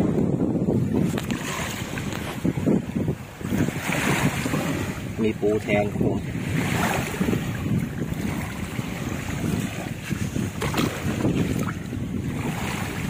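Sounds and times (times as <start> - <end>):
small waves washing on sand: 0.0 - 13.0
wind buffeting microphone: 0.0 - 13.0.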